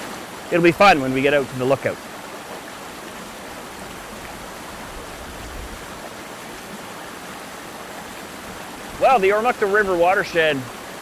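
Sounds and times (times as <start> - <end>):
distant waterfall rushing: 0.0 - 11.0.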